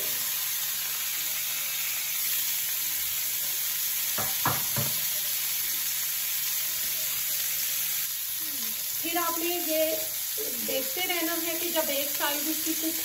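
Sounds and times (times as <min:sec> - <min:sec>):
skewers sizzling in grill pan: 0:00.0 - 0:13.0.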